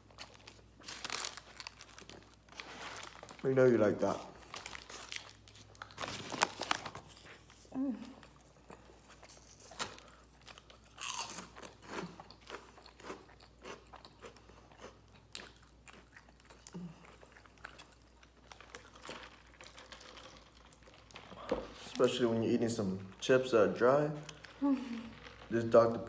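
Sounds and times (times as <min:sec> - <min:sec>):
chewing and crunching food: 0:00.0 - 0:26.0.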